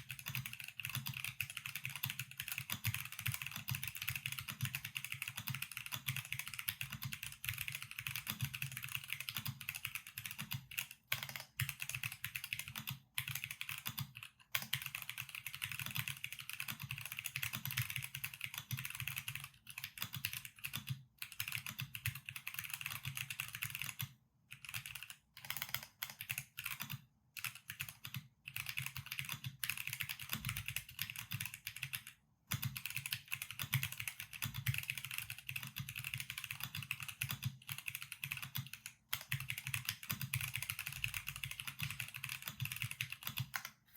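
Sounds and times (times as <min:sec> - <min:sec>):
fast typing on mechanical keyboard: 0:00.0 - 0:43.8.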